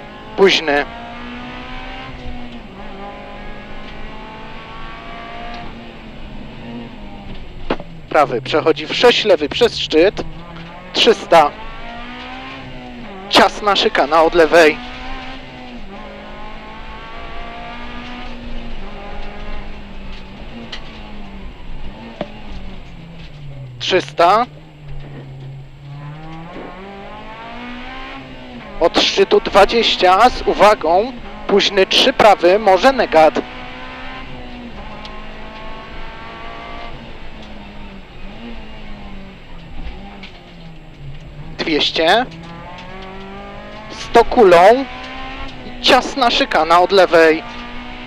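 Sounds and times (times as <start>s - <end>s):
car engine at high revs: 0.0s - 48.0s
tyre and road noise: 0.0s - 48.0s.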